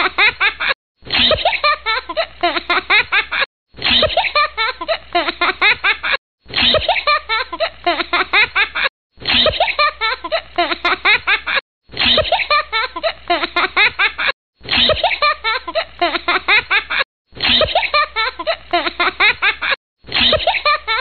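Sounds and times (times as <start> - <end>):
looped giggling laughter: 0.0 - 21.0.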